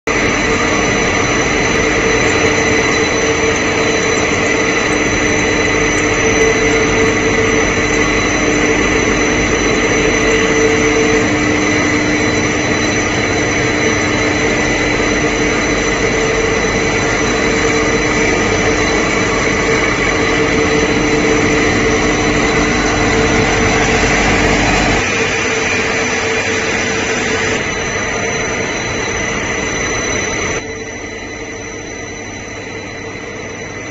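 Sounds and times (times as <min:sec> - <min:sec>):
industrial machine hum and hiss: 0:00.1 - 0:33.9
machine whining tones: 0:00.1 - 0:33.9.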